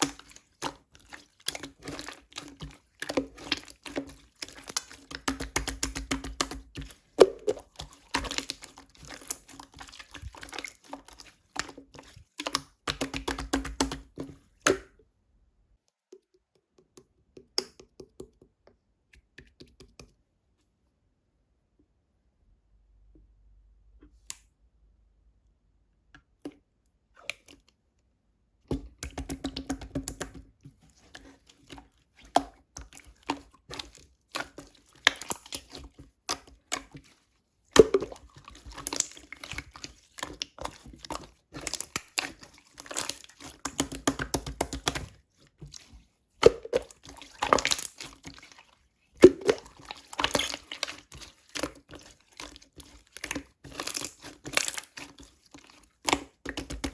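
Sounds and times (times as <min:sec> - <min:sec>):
slime squishing with sticky clicks: 0:00.0 - 0:15.1, 0:26.0 - 0:56.9.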